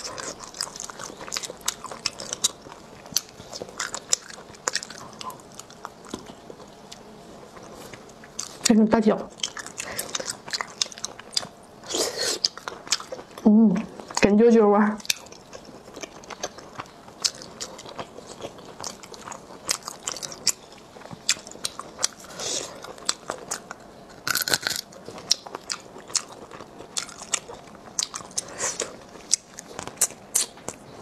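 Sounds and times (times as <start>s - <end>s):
wet chewing and smacking: 0.0s - 8.7s, 9.3s - 14.3s, 15.0s - 30.9s.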